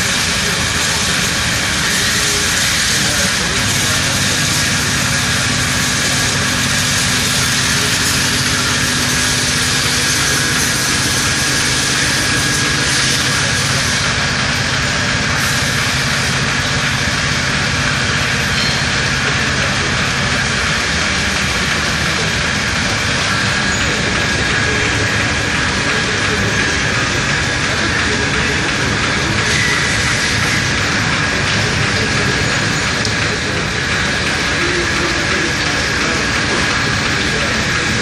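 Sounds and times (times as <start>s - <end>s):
gear shaping machine running: 0.0s - 38.0s.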